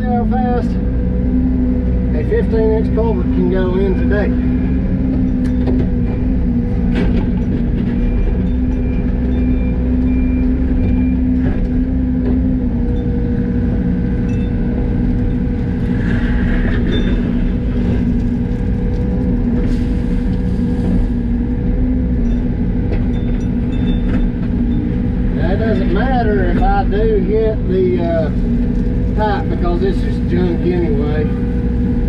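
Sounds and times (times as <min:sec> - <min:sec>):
excavator diesel engine digging: 0:00.0 - 0:32.0.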